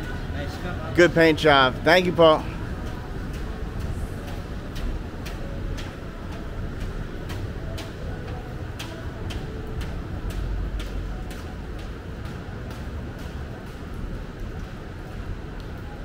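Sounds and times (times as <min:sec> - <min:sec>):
footsteps on wet pavement: 0:00.0 - 0:16.0.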